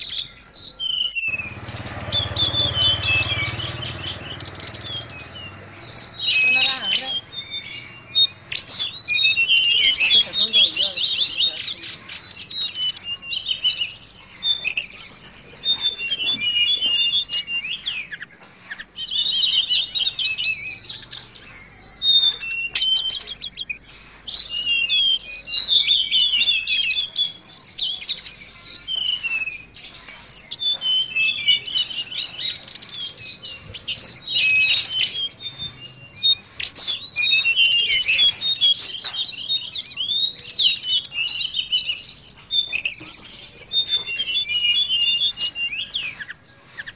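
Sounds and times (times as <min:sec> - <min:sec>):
bird singing high chirps and trills: 0:00.0 - 0:46.9.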